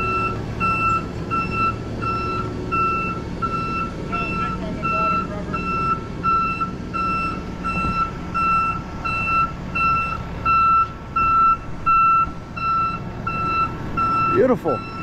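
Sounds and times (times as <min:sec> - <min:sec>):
truck back-up alarm beeping: 0:00.0 - 0:15.0
truck engine running: 0:00.0 - 0:15.0.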